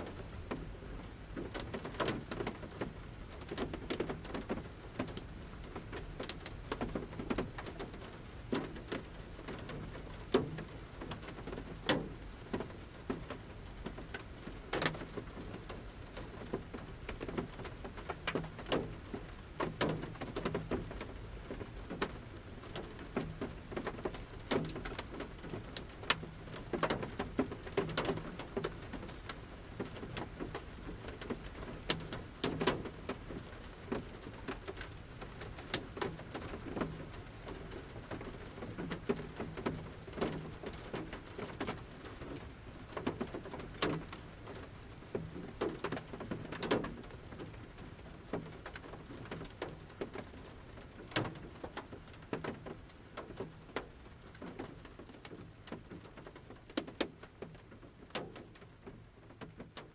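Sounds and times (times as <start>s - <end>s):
faint steady rain: 0.0s - 59.9s
raindrops tapping on van roof: 0.0s - 59.9s.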